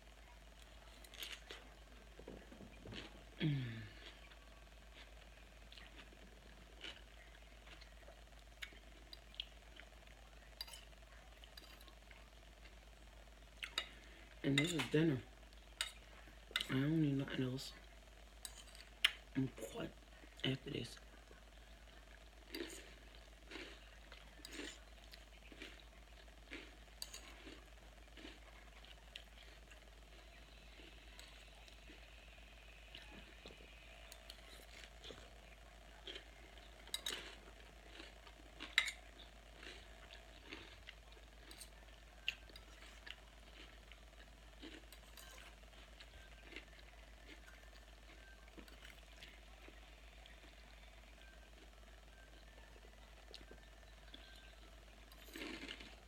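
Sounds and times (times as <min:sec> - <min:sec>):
chewing crunchy salad: 0:00.2 - 0:12.8, 0:13.6 - 0:17.4, 0:18.4 - 0:56.0.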